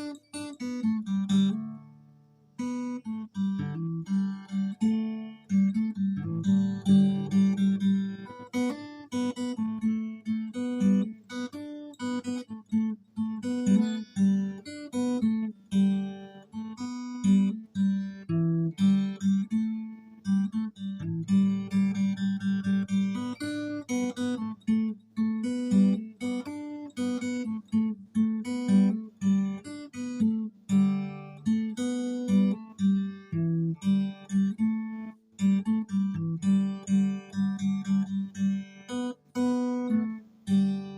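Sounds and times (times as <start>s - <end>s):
acoustic guitar playing: 0.0s - 40.9s.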